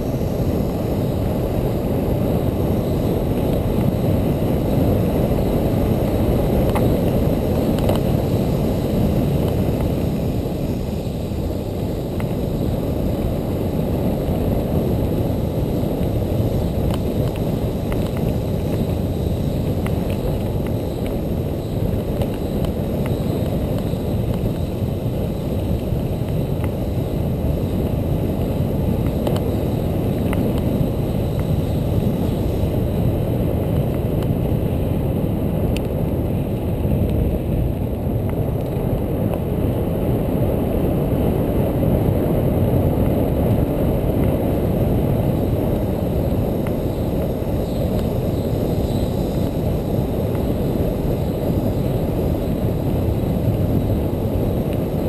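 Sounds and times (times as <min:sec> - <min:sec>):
wind buffeting camera microphone: 0:00.0 - 0:55.0.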